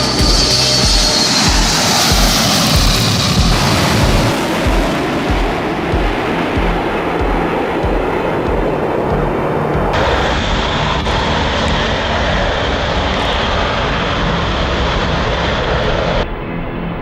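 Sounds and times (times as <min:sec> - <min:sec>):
aircraft engines running: 0:00.0 - 0:17.0.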